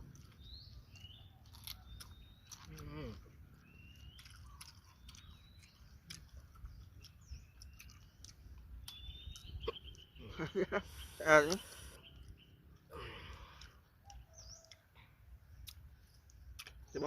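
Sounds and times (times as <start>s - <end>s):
faint birdsong chirping: 0.0s - 17.0s
soft chewing and crunching: 0.0s - 17.0s.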